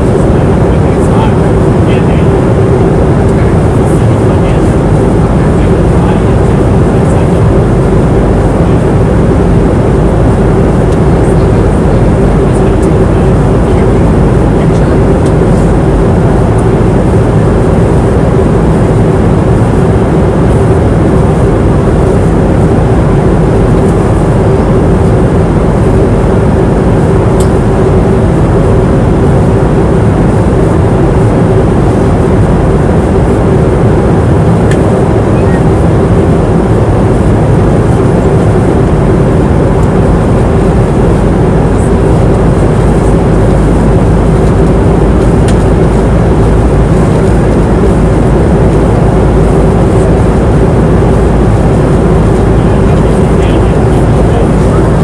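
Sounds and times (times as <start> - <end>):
airliner cabin engine roar: 0.0 - 55.0
steady hum: 0.0 - 55.0.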